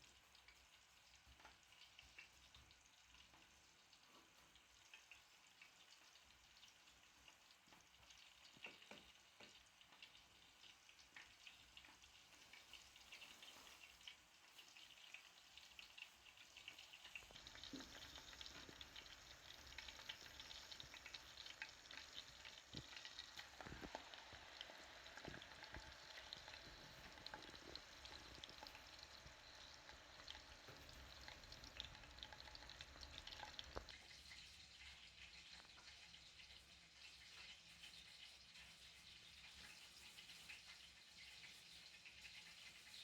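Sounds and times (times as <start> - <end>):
food frying in hot fat: 0.0 - 43.0.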